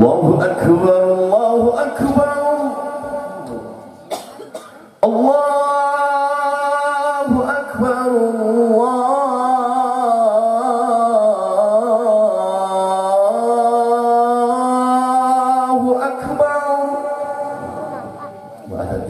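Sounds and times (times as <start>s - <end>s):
man singing call to prayer: 0.0s - 4.0s, 5.0s - 19.0s.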